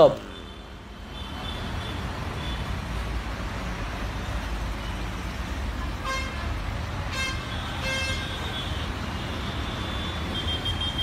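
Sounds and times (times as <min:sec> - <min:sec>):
street noise low rumble: 0:00.0 - 0:11.0.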